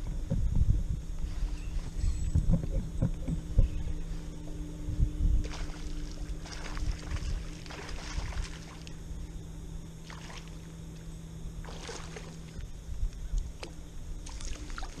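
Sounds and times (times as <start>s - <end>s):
faint steady hum: 0.0s - 15.0s
low rumble of wind and water: 0.0s - 15.0s.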